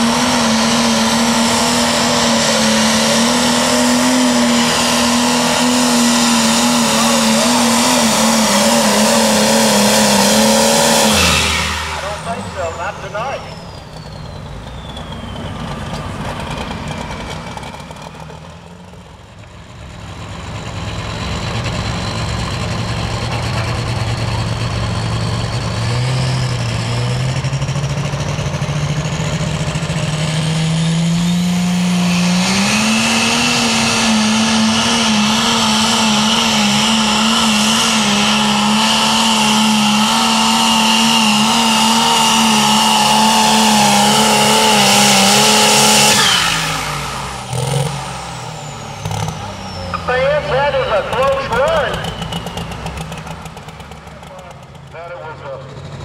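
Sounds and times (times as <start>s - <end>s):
tractor engine revving: 0.0s - 56.0s.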